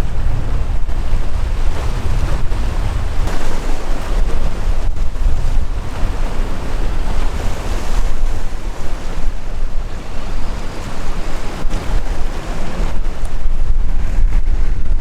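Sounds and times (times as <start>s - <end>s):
sea waves breaking: 0.0s - 15.0s
wind buffeting microphone: 0.0s - 15.0s.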